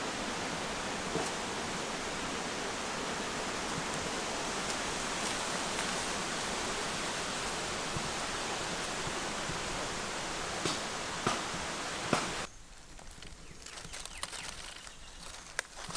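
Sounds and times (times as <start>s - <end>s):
steady outdoor hiss: 0.0s - 15.9s.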